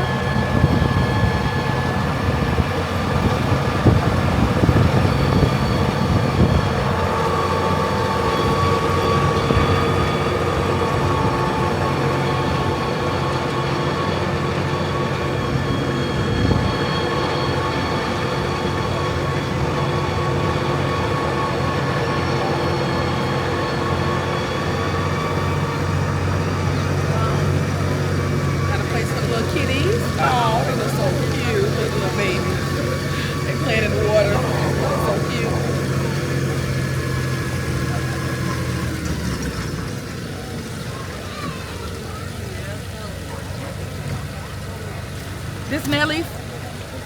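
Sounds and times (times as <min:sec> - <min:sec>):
constant whine: 0:00.0 - 0:47.0
tram engine and wheels rumbling: 0:00.0 - 0:47.0.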